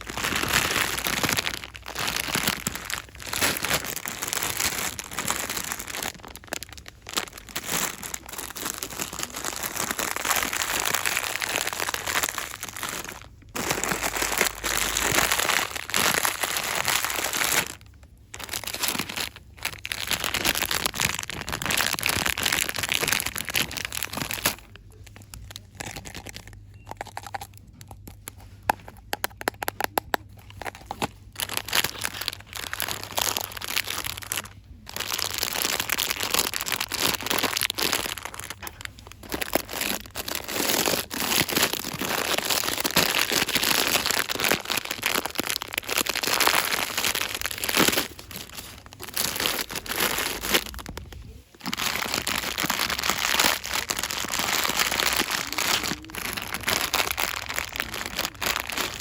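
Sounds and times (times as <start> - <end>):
packaging crinkling: 0.0 - 59.0.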